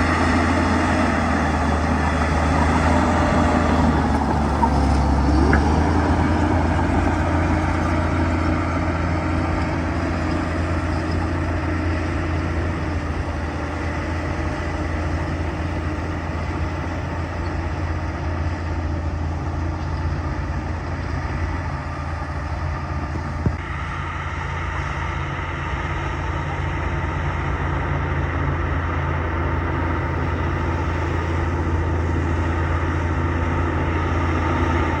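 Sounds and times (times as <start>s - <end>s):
bulldozer diesel engine humming: 0.0s - 35.0s.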